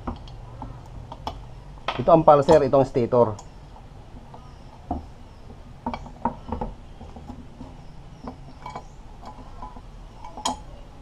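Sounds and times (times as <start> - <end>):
metal parts clicking and knocking: 0.0 - 3.5, 4.2 - 11.0.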